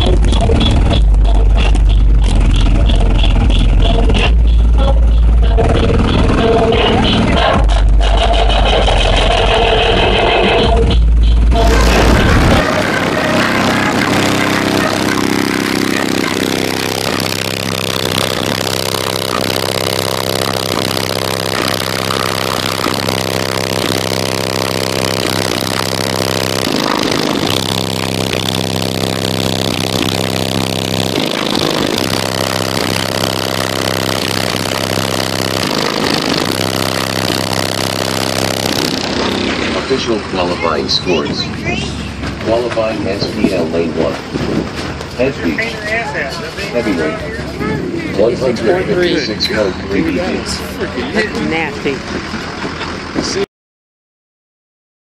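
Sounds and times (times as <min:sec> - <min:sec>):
vehicle engine idling: 0:00.0 - 0:53.5.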